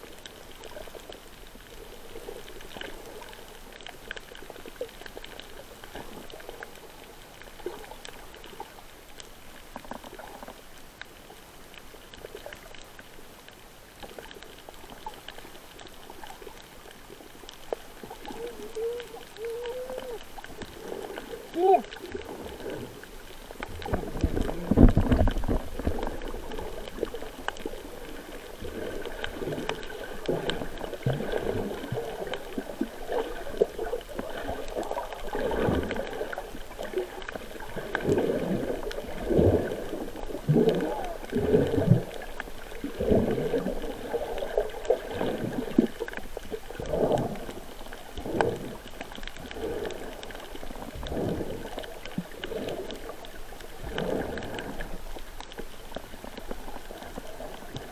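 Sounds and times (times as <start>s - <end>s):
underwater water sloshing: 0.0s - 57.9s
water swishes: 0.0s - 57.9s.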